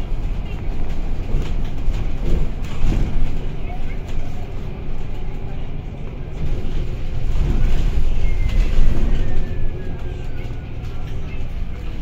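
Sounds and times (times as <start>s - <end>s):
bus engine and wheels rumble: 0.0s - 12.0s.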